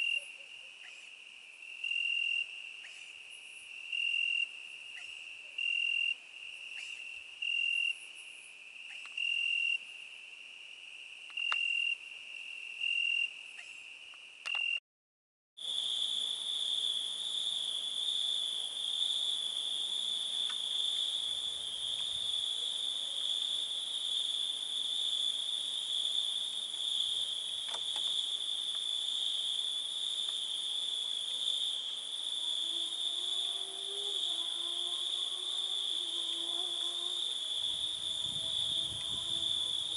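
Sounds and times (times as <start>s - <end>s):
crickets trilling: 0.0s - 14.8s, 15.6s - 39.9s.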